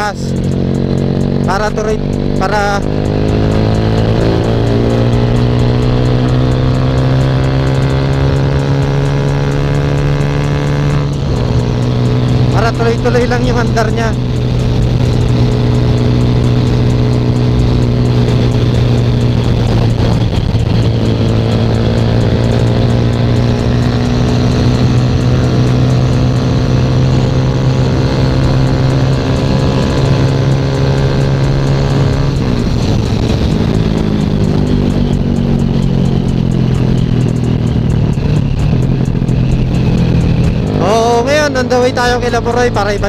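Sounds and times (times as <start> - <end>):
motorcycle engine cruising: 0.0 - 43.0.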